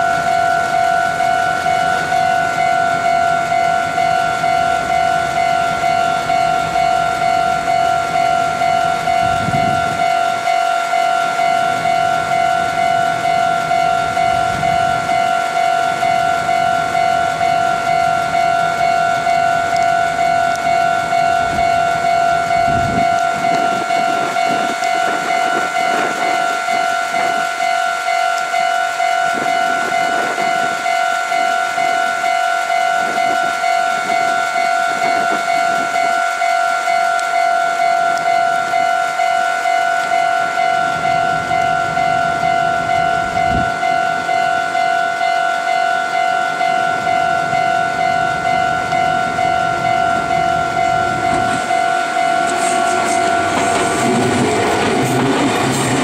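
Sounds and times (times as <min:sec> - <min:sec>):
level crossing alarm ringing: 0:00.0 - 0:56.0.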